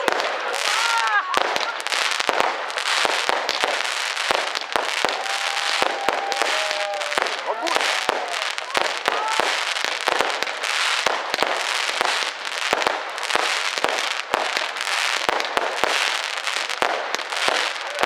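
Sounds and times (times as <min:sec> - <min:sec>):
fireworks crackling hiss: 0:00.0 - 0:18.0
fireworks sharp bangs: 0:00.0 - 0:18.0.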